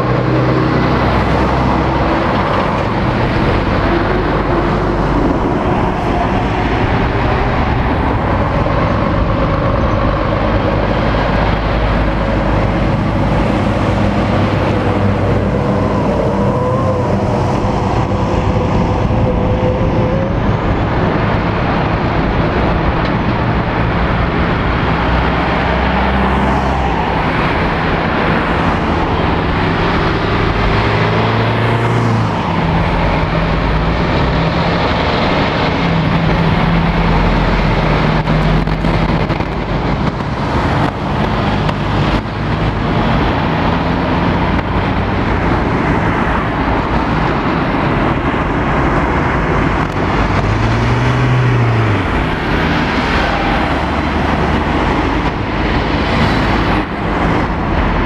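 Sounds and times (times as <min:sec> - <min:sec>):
diesel lorry engines: 0:00.0 - 0:58.0
lorry passing close by: 0:00.0 - 0:58.0.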